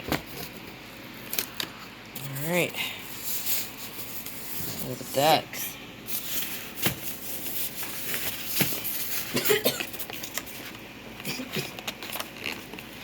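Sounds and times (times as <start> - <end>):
cardboard and plastic rustling: 0.0 - 5.4, 6.0 - 13.0.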